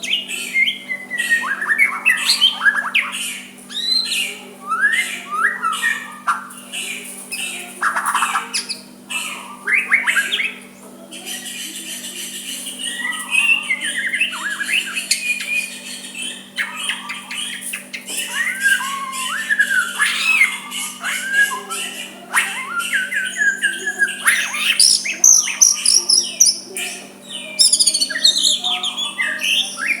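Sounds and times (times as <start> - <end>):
bird singing whistled song: 0.0 - 6.6, 7.3 - 10.6, 12.5 - 30.0.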